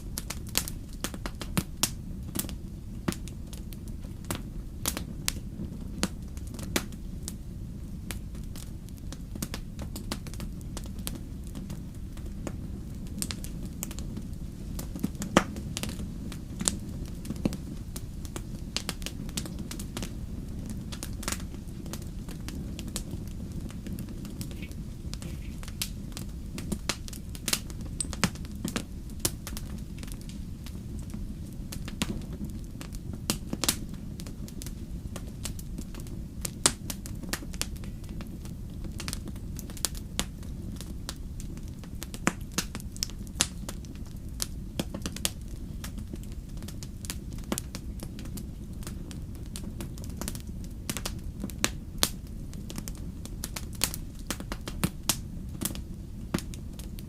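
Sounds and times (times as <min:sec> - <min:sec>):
fireplace fire crackling and popping: 0:00.0 - 0:57.0.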